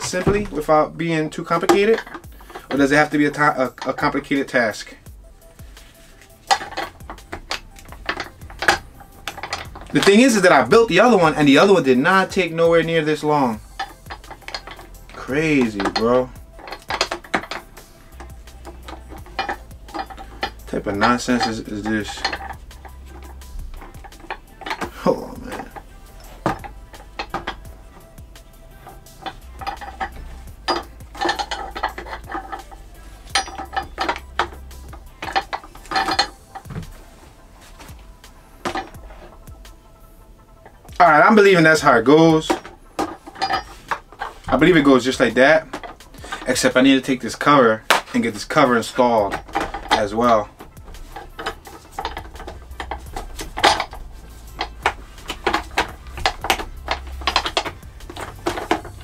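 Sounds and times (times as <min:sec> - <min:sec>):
plastic parts clicking and clattering: 0:00.0 - 0:59.0.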